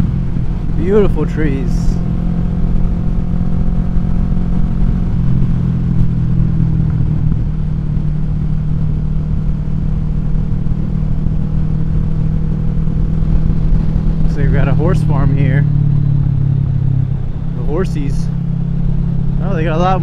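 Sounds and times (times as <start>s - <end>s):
motorcycle engine cruising: 0.0s - 20.0s
wind noise: 0.0s - 20.0s.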